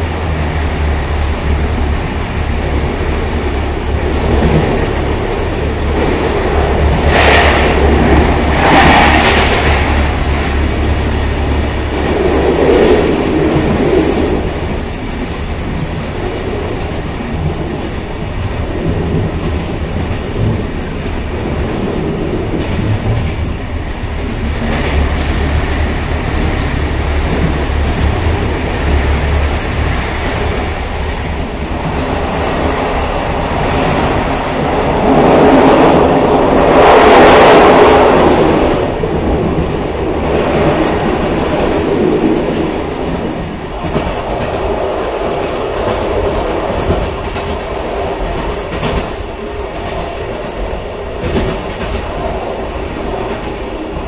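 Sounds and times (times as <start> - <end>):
railcar rumbling on rails: 0.0 - 54.0.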